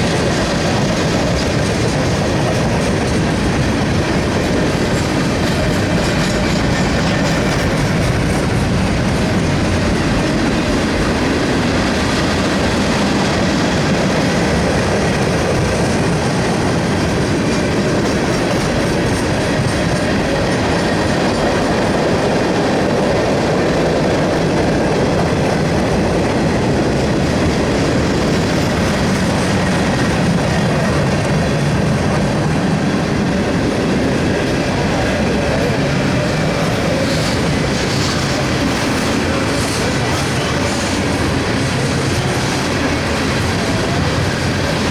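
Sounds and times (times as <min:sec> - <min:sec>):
freight train wheels on rails: 0:00.0 - 0:44.9.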